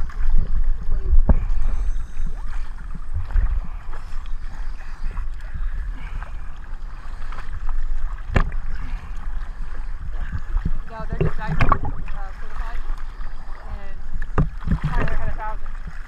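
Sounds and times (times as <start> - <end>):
hands paddling in water: 0.0 - 16.0
sea water sloshing and splashing: 0.0 - 16.0.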